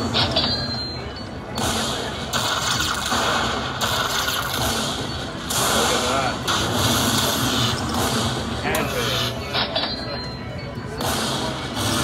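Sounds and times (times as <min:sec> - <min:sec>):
casino crowd and machine noise: 0:00.0 - 0:12.0.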